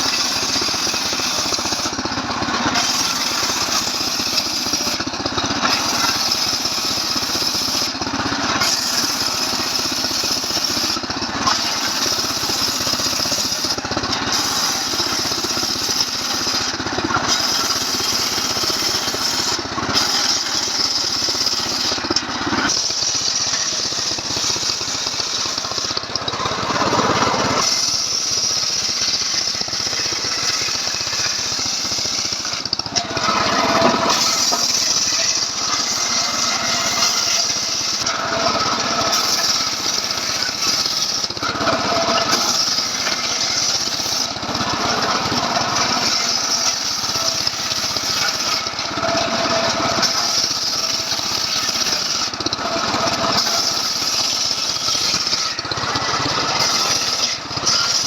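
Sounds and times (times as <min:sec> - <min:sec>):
chainsaw sawing through log: 0:00.0 - 0:58.0.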